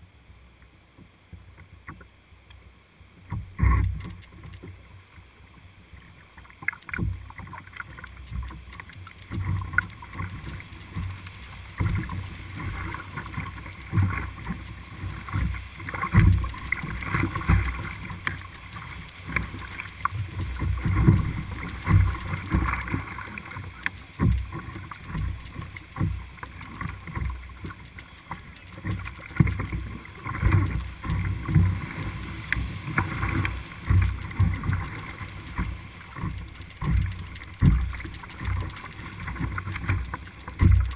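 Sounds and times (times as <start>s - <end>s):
low thumps and splashes on boat: 0.0s - 40.9s.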